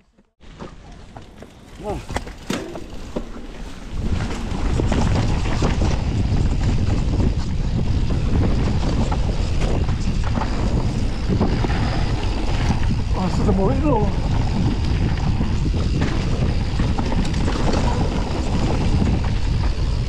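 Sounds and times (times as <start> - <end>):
tyres rumbling on trail: 0.0 - 20.0
bike rattling: 0.2 - 20.0
wind buffeting microphone: 0.4 - 20.0.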